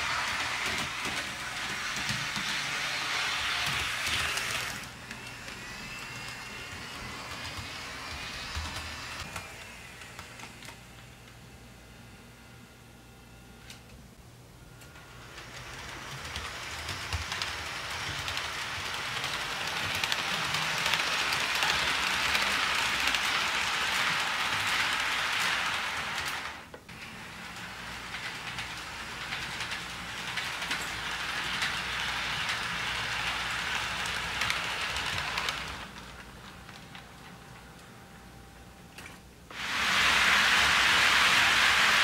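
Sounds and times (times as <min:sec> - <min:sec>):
model train rolling on track: 0:00.0 - 0:10.8, 0:14.8 - 0:37.4, 0:39.5 - 0:42.0.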